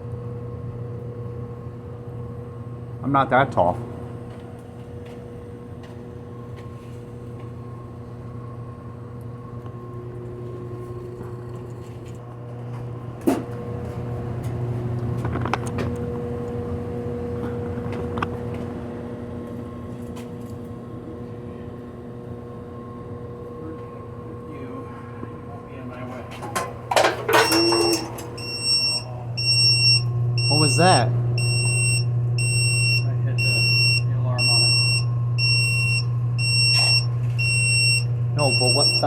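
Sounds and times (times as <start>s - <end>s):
furnace fan humming: 0.0s - 39.0s.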